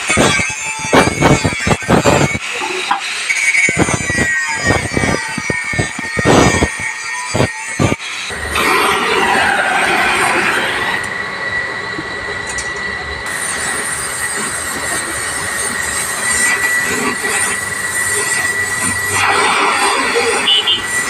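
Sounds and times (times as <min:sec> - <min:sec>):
welding torch flame hissing: 0:00.0 - 0:21.0.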